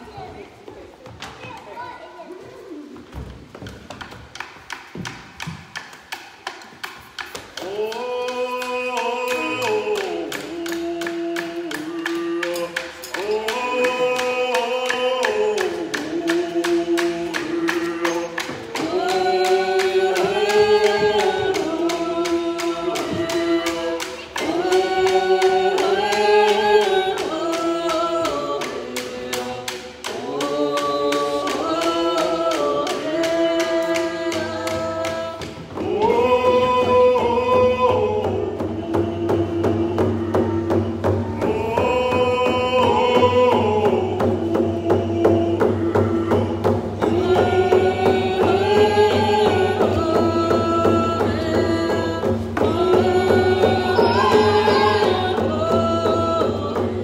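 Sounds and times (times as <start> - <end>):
frame drums beating: 3.4 - 57.0
group of people singing: 4.1 - 57.0.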